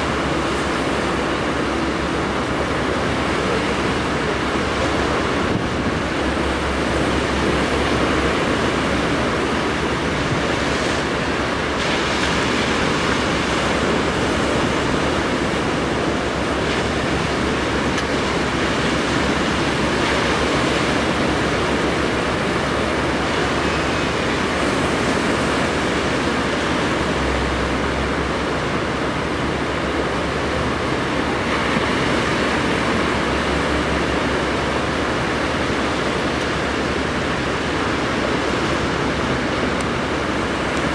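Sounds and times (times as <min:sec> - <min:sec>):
surf washing: 0:00.0 - 0:40.9.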